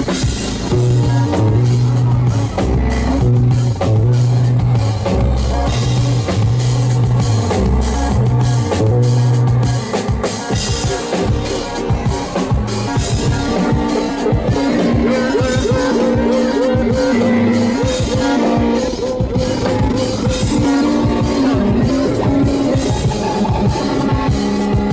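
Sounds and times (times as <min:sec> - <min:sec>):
drum beat: 0:00.0 - 0:24.9
held synth bass notes: 0:00.0 - 0:24.9
high repeating synth line: 0:00.0 - 0:24.9.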